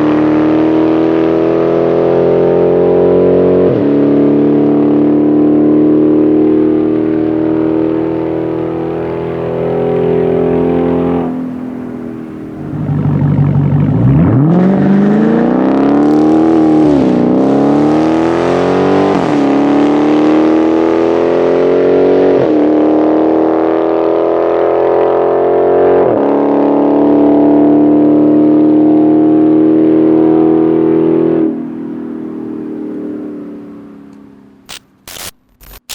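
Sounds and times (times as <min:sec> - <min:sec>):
car engine accelerating hard: 0:00.0 - 0:35.1.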